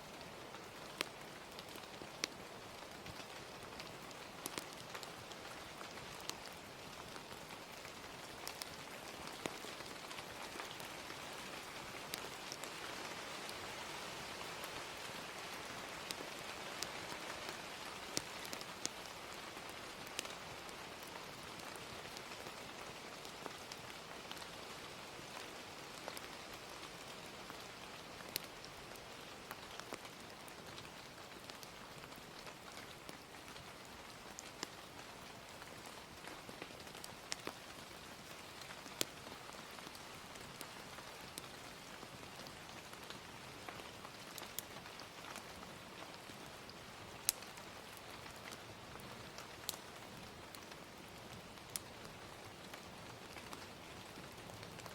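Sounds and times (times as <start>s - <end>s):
gentle steady rain: 0.0s - 54.9s
wood fire crackling: 0.0s - 54.9s.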